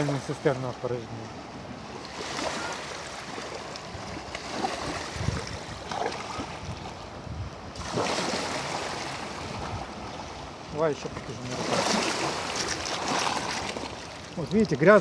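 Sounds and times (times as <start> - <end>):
waves washing onto stony shore: 0.0 - 15.0
wind on microphone: 1.4 - 14.0.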